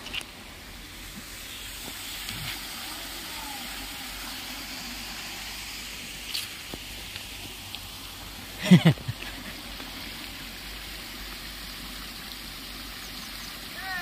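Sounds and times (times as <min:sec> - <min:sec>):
water running down spillway: 0:00.0 - 0:14.0.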